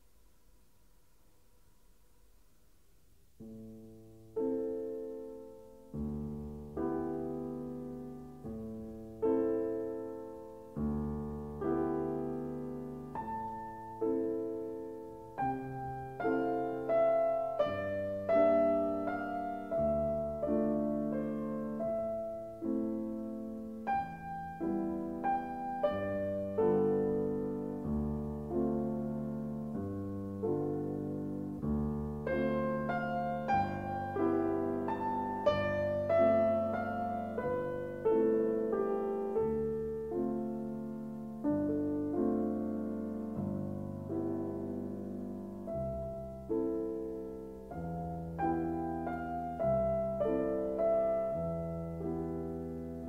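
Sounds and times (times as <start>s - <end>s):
piano music: 3.4s - 53.0s.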